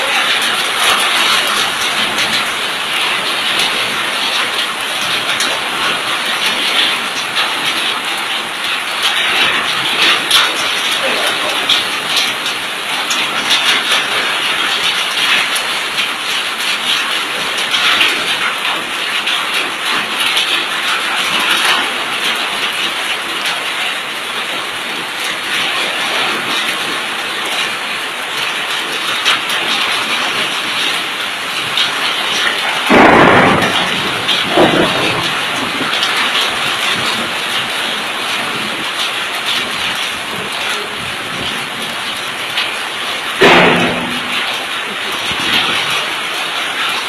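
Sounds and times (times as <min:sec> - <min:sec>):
heavy rain and hail: 0:00.0 - 0:47.0.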